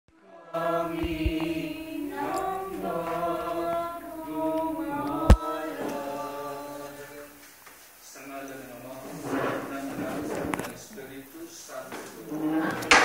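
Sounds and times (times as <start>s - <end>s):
voices singing a slow hymn: 0.1s - 13.0s.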